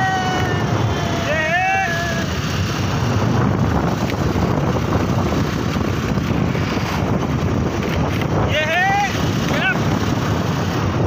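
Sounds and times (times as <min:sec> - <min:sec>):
road noise: 0:00.0 - 0:11.0
scooter engine: 0:00.0 - 0:11.0
wind buffeting microphone: 0:00.0 - 0:11.0.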